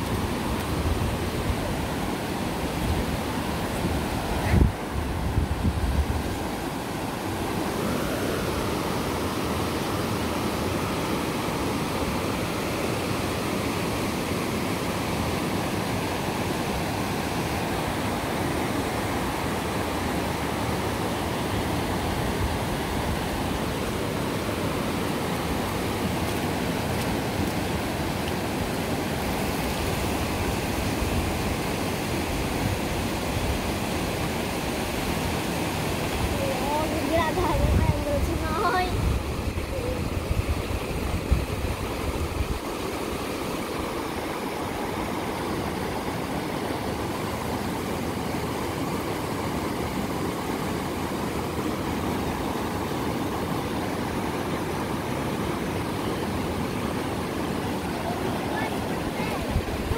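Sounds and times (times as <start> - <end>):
rushing wind and water: 0.0 - 59.9.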